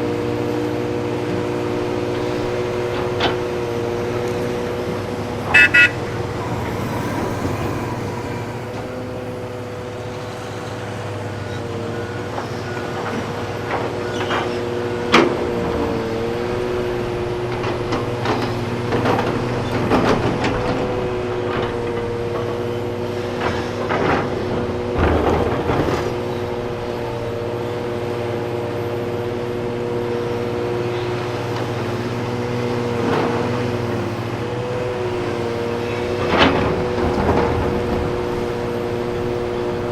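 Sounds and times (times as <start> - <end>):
heavy machinery diesel engines humming: 0.0 - 39.9.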